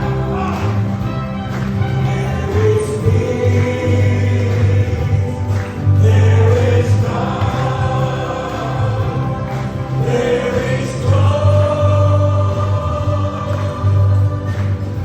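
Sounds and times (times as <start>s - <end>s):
choir singing: 0.0s - 15.0s
instrumental backing with bass: 0.0s - 15.0s.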